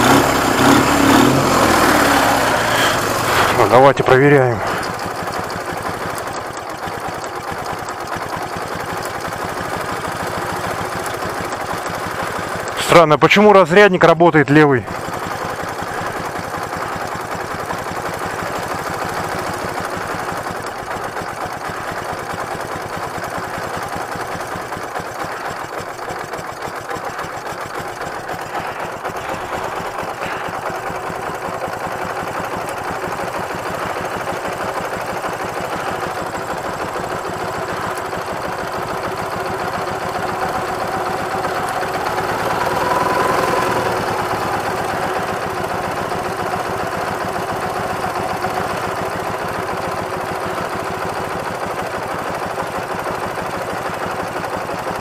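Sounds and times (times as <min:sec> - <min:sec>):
motorcycle engine idling: 0:00.0 - 0:13.2, 0:14.6 - 0:55.0.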